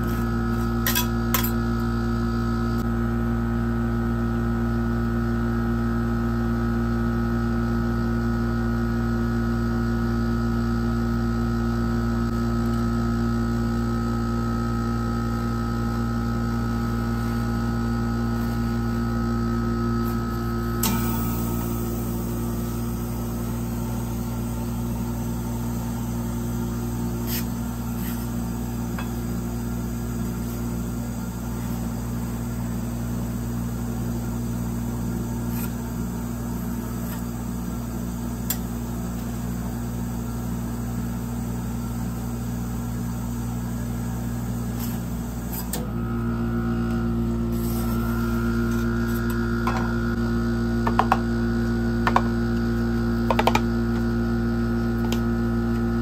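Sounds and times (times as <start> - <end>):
electric hum of machine: 0.0 - 56.0.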